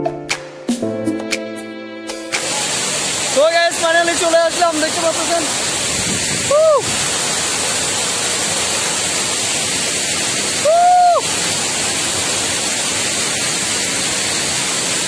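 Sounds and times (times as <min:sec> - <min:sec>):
waterfall rushing: 0:02.2 - 0:15.0.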